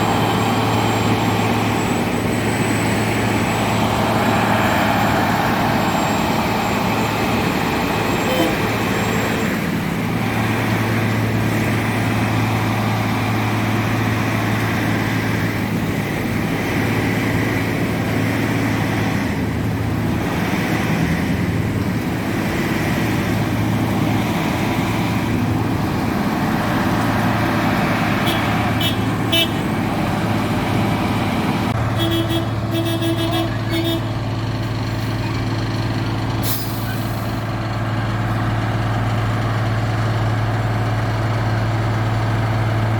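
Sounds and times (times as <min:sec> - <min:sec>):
heavy diesel machine droning: 0:00.0 - 0:42.9.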